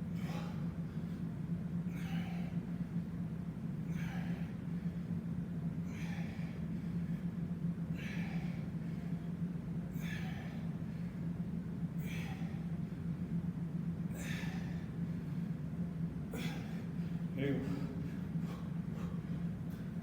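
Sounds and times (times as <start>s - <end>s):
man breathing hard: 0.0s - 3.2s, 3.8s - 13.4s, 14.0s - 20.0s
steady low hum: 0.0s - 20.0s.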